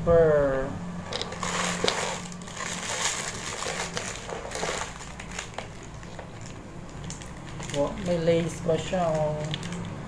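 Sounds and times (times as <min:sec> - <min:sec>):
paper crinkling and rustling: 0:01.1 - 0:10.0.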